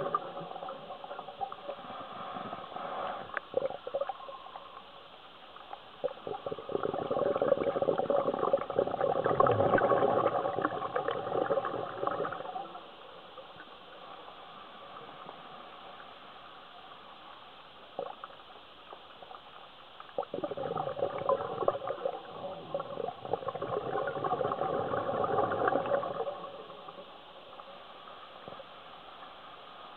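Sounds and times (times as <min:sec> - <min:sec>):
underwater air bubbling: 0:00.0 - 0:05.1, 0:06.0 - 0:16.2, 0:20.2 - 0:29.1.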